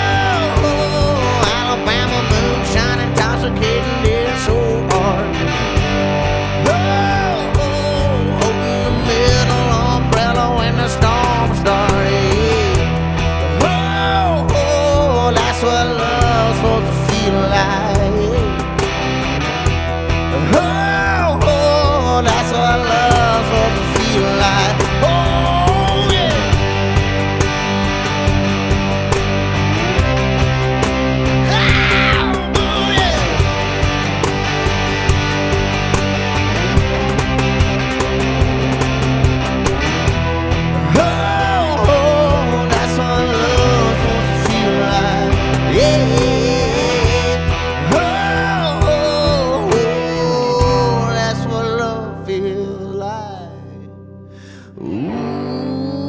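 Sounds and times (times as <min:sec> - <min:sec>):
drums: 0:00.0 - 0:52.2
distorted electric guitar chords: 0:00.0 - 0:56.0
lead guitar bending notes: 0:00.0 - 0:56.0
live rock band: 0:00.0 - 0:56.0.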